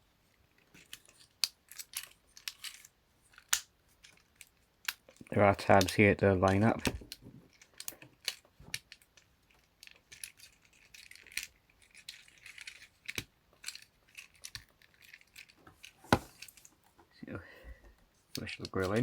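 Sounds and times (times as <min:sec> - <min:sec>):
plastic toy parts clicking: 0:00.6 - 0:16.7.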